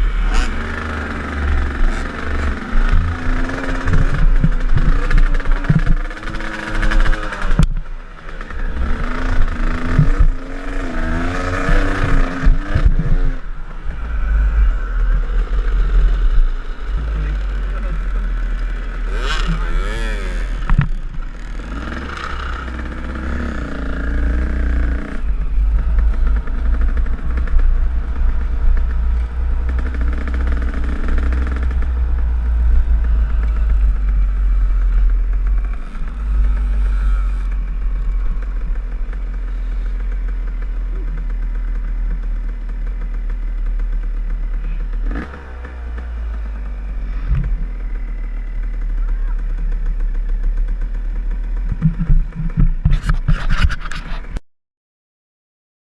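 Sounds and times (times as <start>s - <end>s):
dirt bike engine revving: 0.0s - 54.4s.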